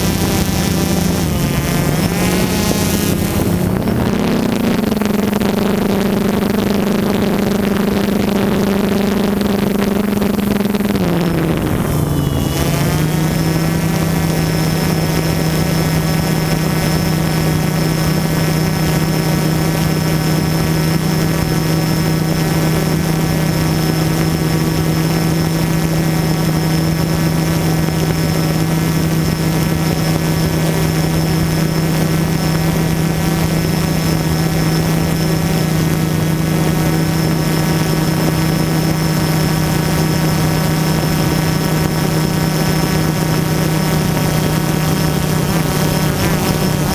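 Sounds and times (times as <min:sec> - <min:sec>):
drone propellers buzzing: 0:00.0 - 0:46.9.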